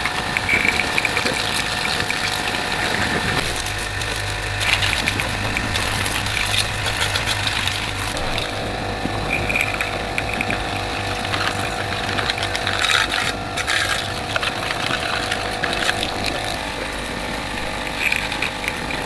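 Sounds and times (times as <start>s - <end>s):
low mechanical hum: 0.0s - 19.0s
metallic clicking and rattling: 0.0s - 19.0s.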